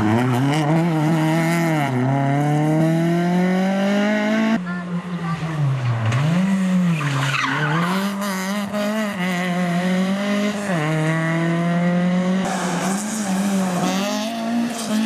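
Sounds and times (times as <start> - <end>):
car engine at high revs: 0.0 - 4.6, 5.5 - 15.0.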